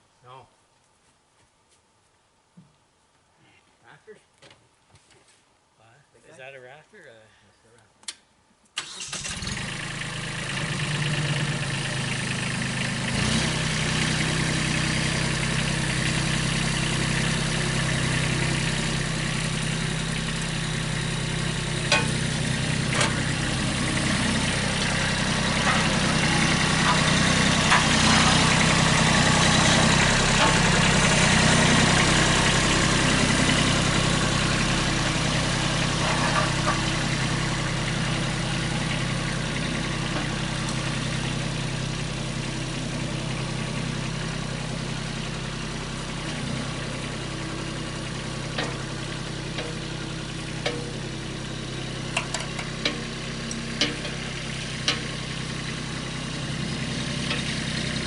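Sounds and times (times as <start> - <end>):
engine running steadily: 8.8 - 58.0.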